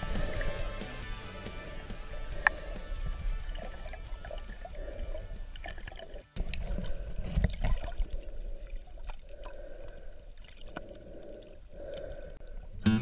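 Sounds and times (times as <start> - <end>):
underwater sloshing and gurgling: 1.6 - 12.8.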